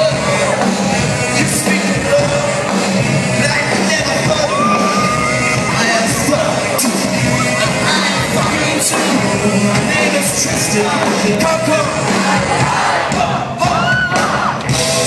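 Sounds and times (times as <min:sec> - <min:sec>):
man singing: 0:00.0 - 0:14.3
crowd yelling and whooping: 0:00.0 - 0:15.0
live band with drums: 0:00.0 - 0:15.0.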